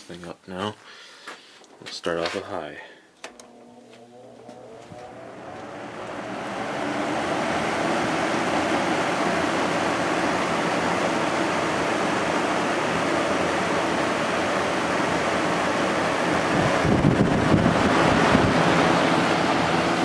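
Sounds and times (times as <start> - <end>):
faint low motor hum: 2.9 - 20.0
fan air rushing: 3.0 - 20.0.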